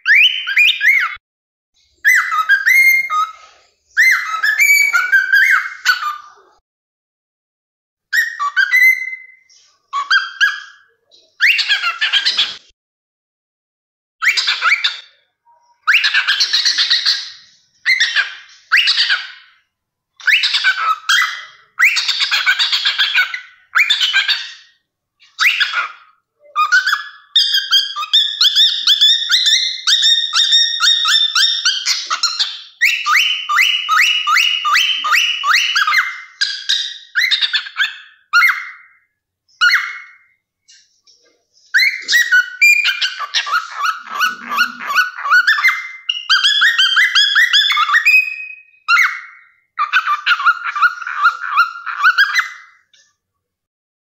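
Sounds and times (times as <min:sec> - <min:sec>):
cockatiel chirping: 0:00.0 - 0:01.2, 0:02.0 - 0:06.5, 0:08.2 - 0:12.6, 0:14.2 - 0:19.6, 0:20.2 - 0:41.0, 0:41.6 - 0:52.9.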